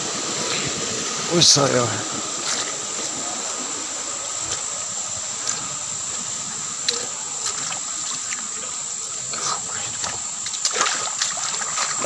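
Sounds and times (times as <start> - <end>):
stream water hissing: 0.0 - 12.0.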